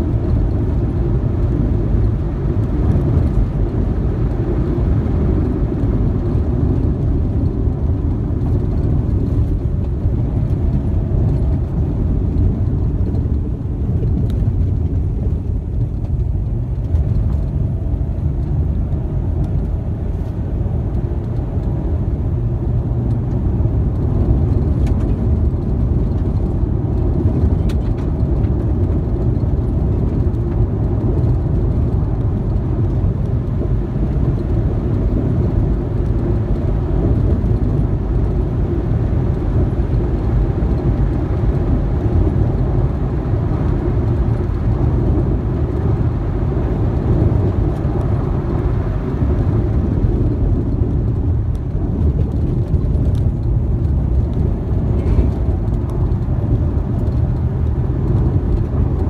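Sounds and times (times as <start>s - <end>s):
car driving on dirt road: 0.0s - 59.0s.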